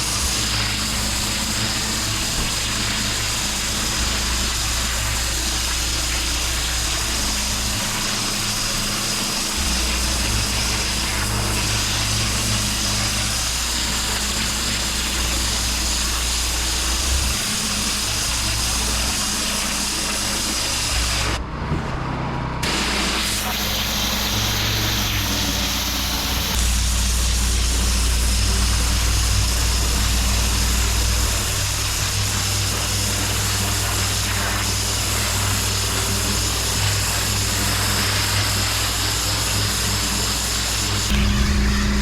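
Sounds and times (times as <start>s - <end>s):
water jet hissing on paving: 0.0s - 21.4s, 22.6s - 42.0s
pressure washer engine hum: 0.0s - 42.0s.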